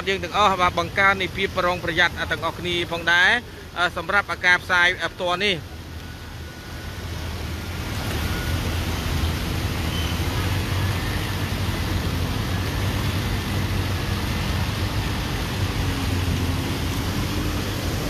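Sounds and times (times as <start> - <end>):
faint engine hum: 0.0 - 18.0
vehicles driving through floodwater: 0.0 - 18.0.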